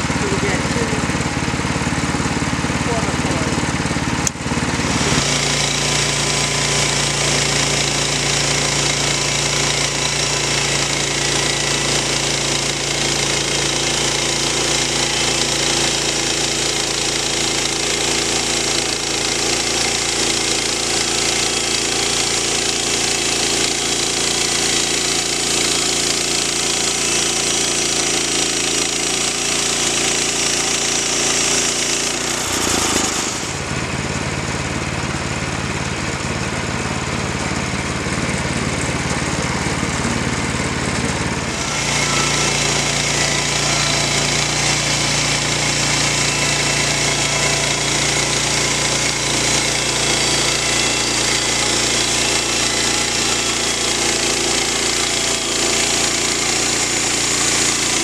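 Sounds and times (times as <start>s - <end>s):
bandsaw sawmill cutting log: 0.0s - 58.0s.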